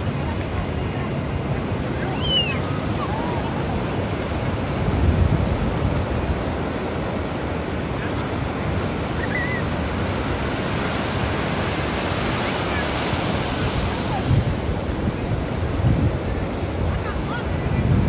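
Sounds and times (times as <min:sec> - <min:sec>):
wind buffeting microphone: 0:00.0 - 0:12.3, 0:13.2 - 0:18.0
ocean surf breaking on shore: 0:00.0 - 0:18.0.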